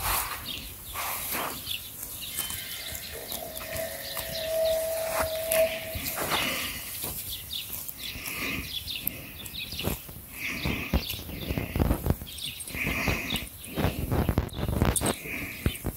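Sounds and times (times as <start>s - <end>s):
birds chirping: 0.3s - 15.9s.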